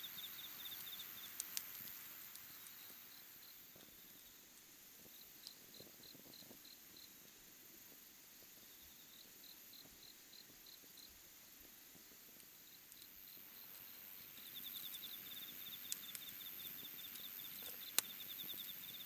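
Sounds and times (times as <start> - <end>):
faint cricket chirping: 0.0 - 19.0.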